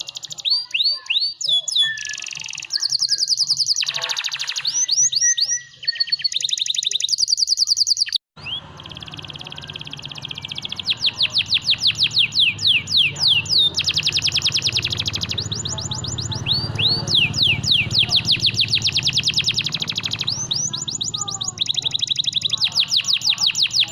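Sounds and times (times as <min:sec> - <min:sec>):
canary singing trills: 0:00.0 - 0:23.9.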